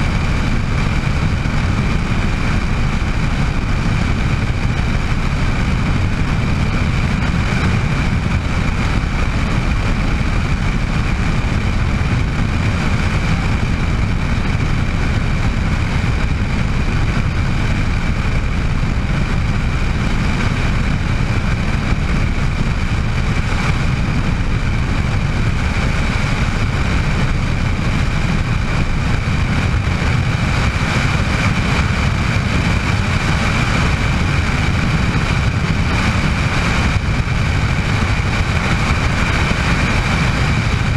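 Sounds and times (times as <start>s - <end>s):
helicopter rotor rumble: 0.0s - 40.9s
high turbine whine: 0.0s - 40.9s.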